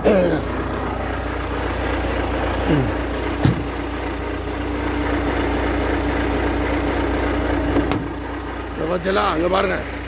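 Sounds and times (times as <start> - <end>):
truck diesel engine humming: 0.0 - 10.0.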